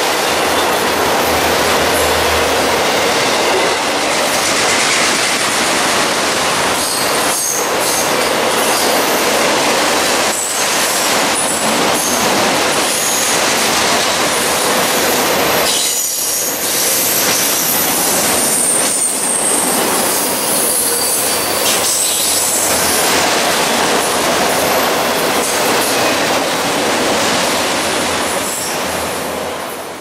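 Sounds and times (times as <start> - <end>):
steel wheels rushing on rail: 0.0 - 30.0.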